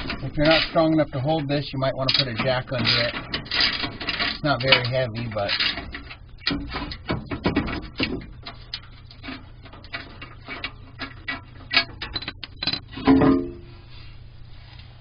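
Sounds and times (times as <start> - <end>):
metal skid plate clicks and scrapes: 0.0 - 13.2.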